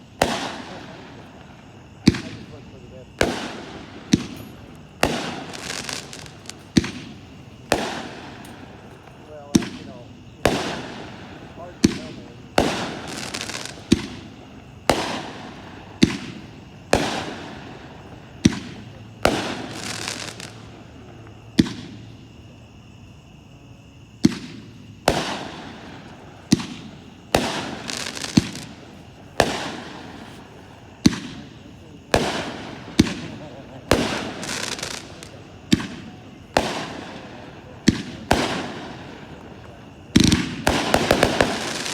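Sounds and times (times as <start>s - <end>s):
firework cake bangs: 0.0s - 22.2s, 24.2s - 41.9s.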